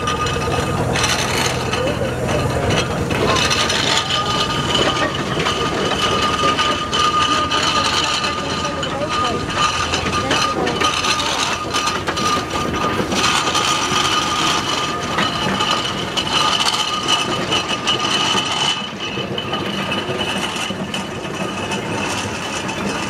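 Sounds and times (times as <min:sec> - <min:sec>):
steam traction engines clattering: 0:00.0 - 0:23.0.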